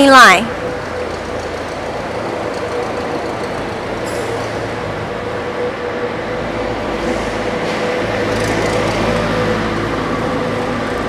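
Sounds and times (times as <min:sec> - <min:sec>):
constant mechanical whine: 0:00.0 - 0:11.0
factory machinery din: 0:00.0 - 0:11.0.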